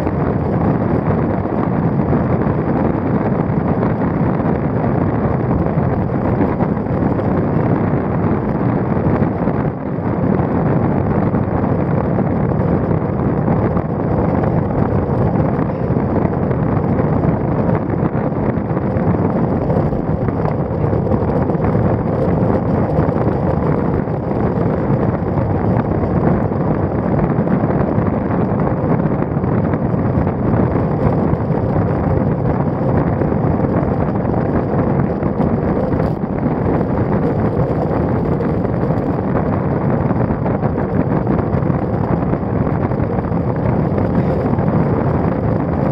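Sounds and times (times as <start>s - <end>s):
road noise: 0.0s - 45.9s
wind buffeting microphone: 0.0s - 45.9s.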